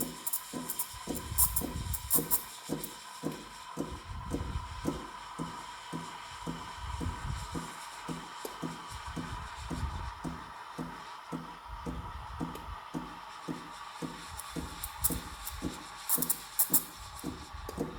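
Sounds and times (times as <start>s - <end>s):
background music with steady beat: 0.0s - 17.9s.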